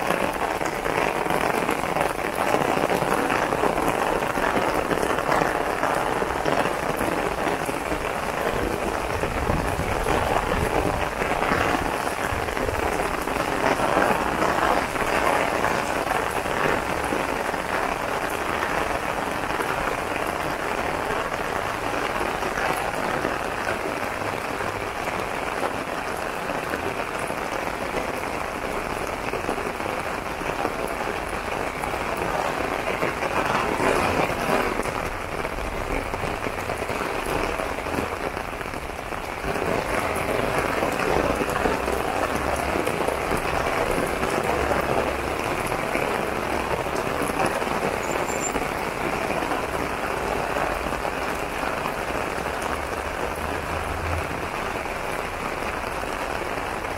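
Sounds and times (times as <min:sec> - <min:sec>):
heavy rain on an umbrella: 0:00.0 - 0:56.9.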